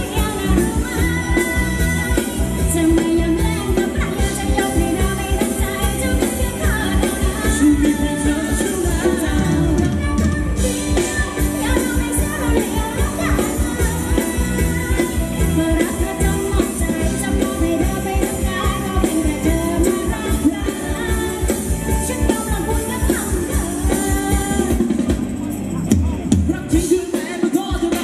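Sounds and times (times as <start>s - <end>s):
person singing: 0.0s - 25.1s, 26.0s - 28.0s
live band dance music: 0.0s - 28.0s.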